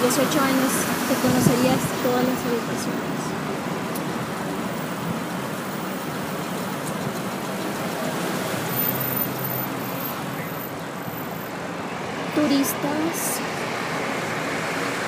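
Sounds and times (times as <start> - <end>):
road and traffic noise: 0.0 - 15.0.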